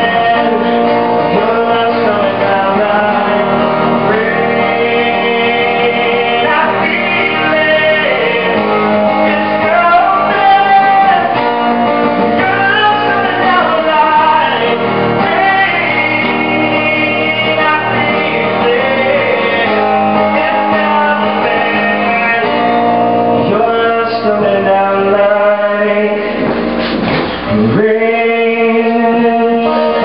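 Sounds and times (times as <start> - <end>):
guitar accompaniment: 0.0 - 30.0
person singing: 0.0 - 30.0.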